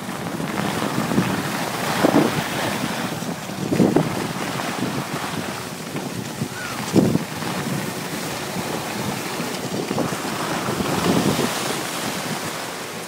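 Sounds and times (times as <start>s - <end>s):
skis scraping on snow: 0.0s - 13.0s
wind buffeting microphone: 0.0s - 13.0s.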